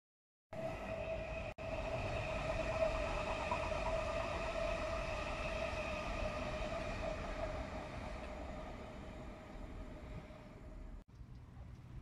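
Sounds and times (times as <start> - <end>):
low rumble: 0.6 - 12.0
steady mechanical hum: 1.0 - 12.0.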